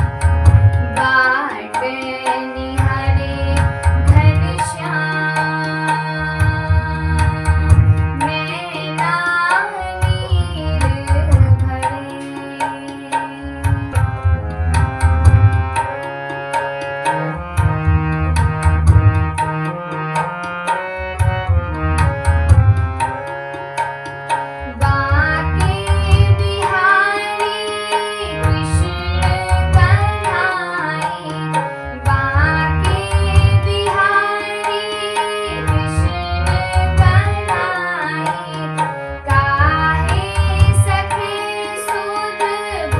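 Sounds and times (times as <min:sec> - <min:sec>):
tabla rhythm: 0:00.0 - 0:42.9.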